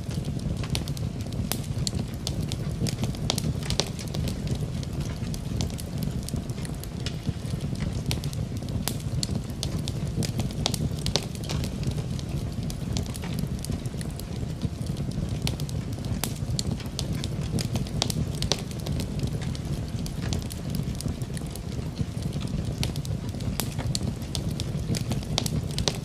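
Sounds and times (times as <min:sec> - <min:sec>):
rain: 0:00.0 - 0:26.0
sharp pops of fire: 0:00.0 - 0:26.0
wood fire crackling: 0:00.0 - 0:26.0.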